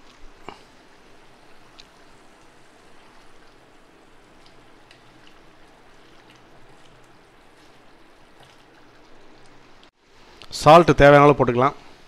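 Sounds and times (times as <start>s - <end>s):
mixture simmering and bubbling: 0.0s - 12.0s.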